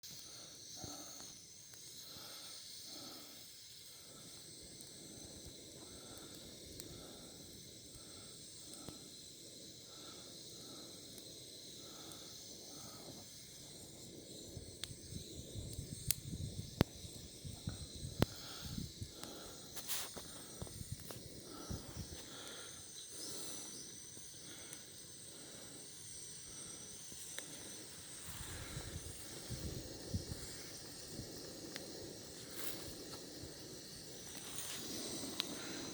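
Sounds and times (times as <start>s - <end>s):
bonfire hissing: 0.0s - 35.9s
fire popping and crackling: 0.0s - 35.9s.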